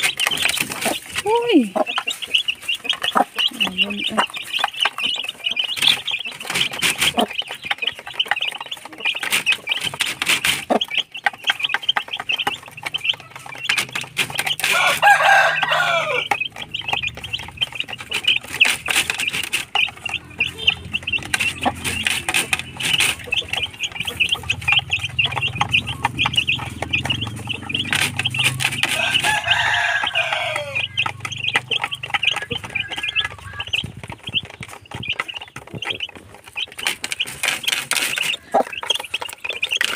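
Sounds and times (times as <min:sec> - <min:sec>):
chicks peeping: 0:00.0 - 0:39.9
hen clucking: 0:00.0 - 0:39.9
pecking taps on feeder: 0:01.7 - 0:39.9.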